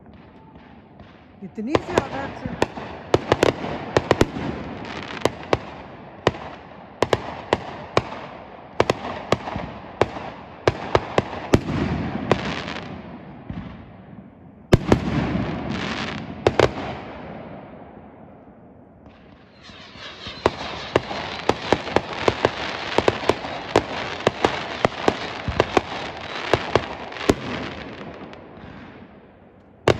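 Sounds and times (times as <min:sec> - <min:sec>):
fireworks bangs and crackles: 0:00.0 - 0:29.9.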